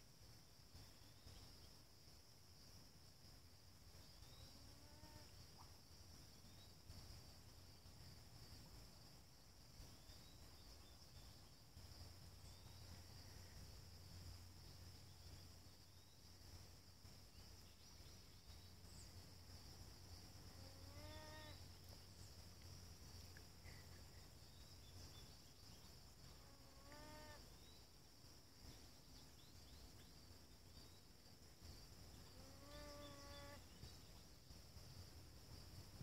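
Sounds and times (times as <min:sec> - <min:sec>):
insects droning: 0:00.0 - 0:36.0.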